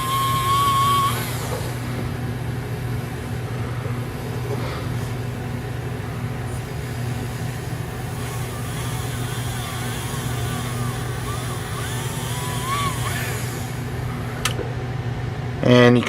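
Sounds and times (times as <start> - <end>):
electric motor humming: 0.0 - 15.0
high steady whine: 0.0 - 16.0.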